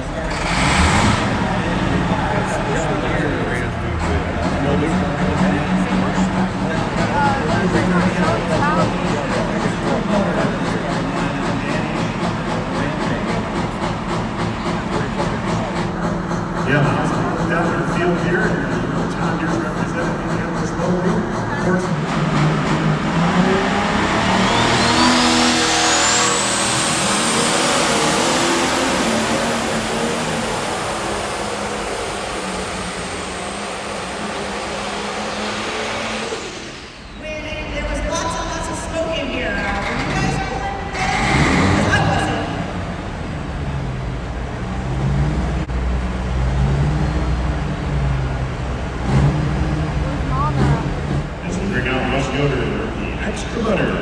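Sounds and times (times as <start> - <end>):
motor vehicle accelerating: 0.0 - 54.0
road noise: 0.0 - 54.0.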